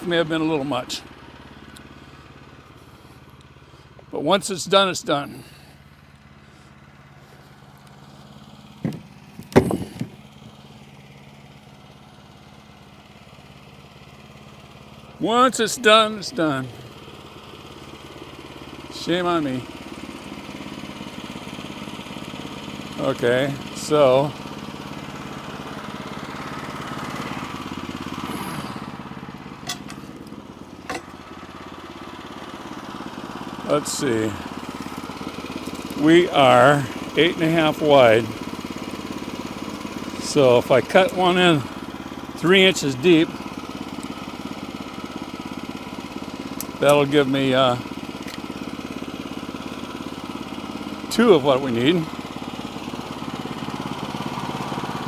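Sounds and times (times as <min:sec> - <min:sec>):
engine idling with low hum: 0:00.0 - 0:55.0.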